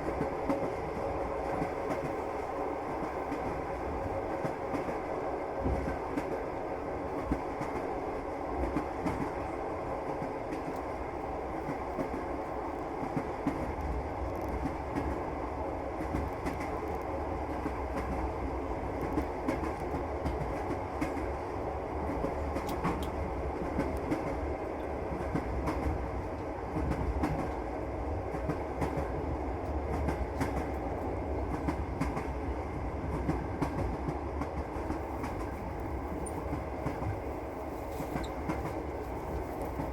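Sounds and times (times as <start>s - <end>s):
train carriage rumbling: 0.0s - 39.9s.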